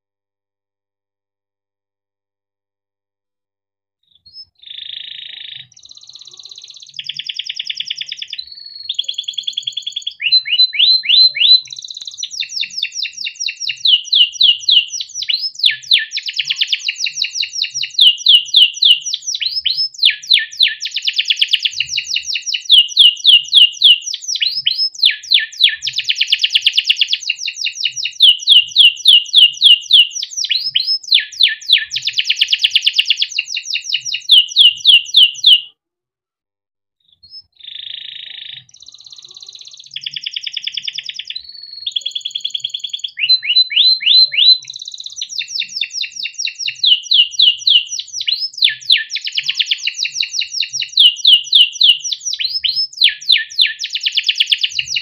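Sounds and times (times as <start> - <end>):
canary singing trills: 4.2 - 35.7, 37.2 - 55.0.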